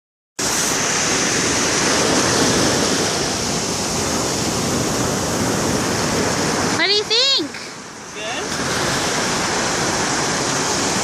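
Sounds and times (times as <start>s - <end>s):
ocean waves breaking: 0.4s - 11.0s.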